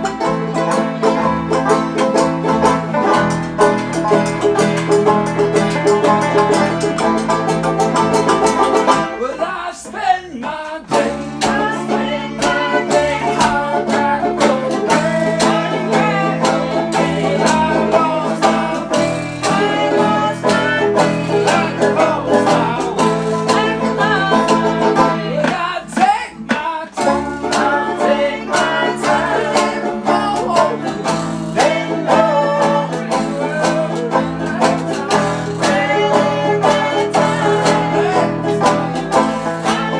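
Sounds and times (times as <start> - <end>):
bluegrass string band: 0.0 - 39.9
fast banjo picking: 0.0 - 39.9.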